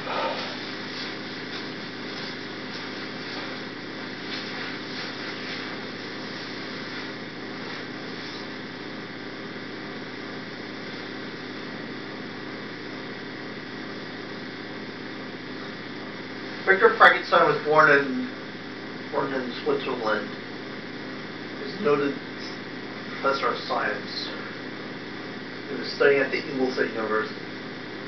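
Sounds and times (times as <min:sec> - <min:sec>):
steady hum with hiss: 0:00.0 - 0:28.0.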